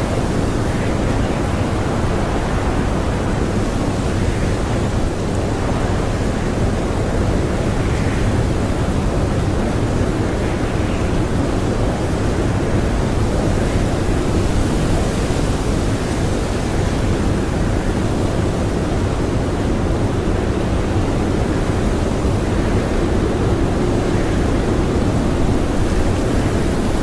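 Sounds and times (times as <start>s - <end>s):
blizzard wind blowing: 0.0s - 27.0s.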